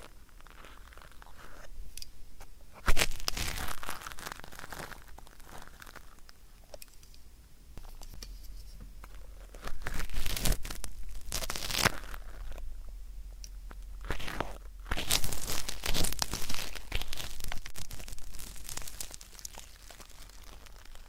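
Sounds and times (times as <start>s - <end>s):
ear pick scraping and crackling: 0.0s - 21.0s.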